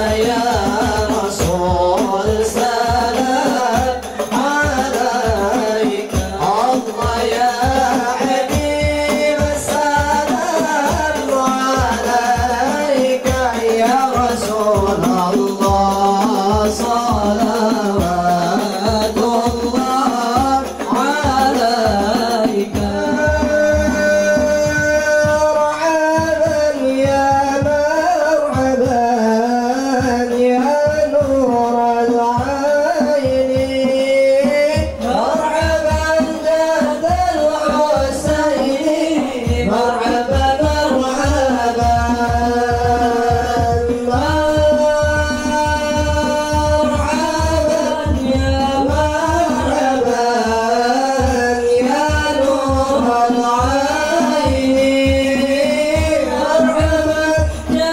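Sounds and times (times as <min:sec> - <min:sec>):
frame drums beating: 0:00.0 - 0:57.9
male group singing: 0:00.0 - 0:57.9.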